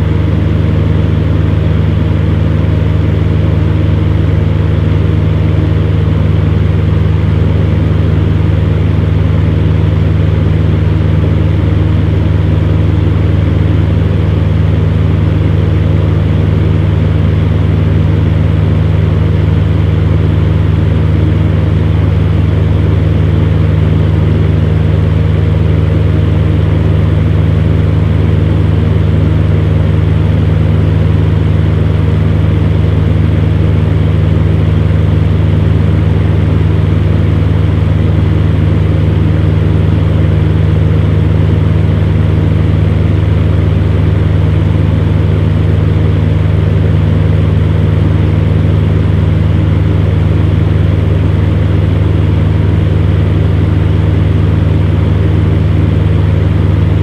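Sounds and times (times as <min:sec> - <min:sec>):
fan heater motor hum: 0:00.0 - 0:57.0.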